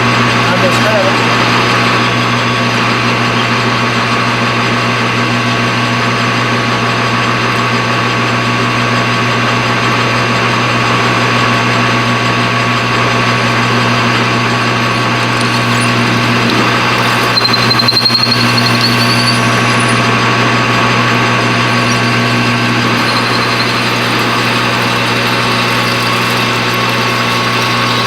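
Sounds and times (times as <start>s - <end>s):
machine tool whining: 0.0s - 28.0s.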